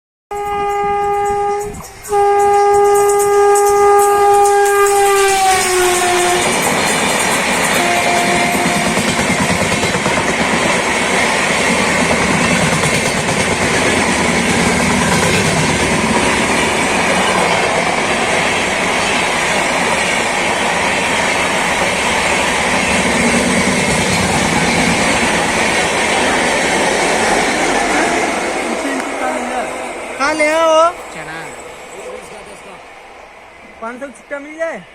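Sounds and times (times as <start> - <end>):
train wheels rushing on rails: 0.3 - 34.9.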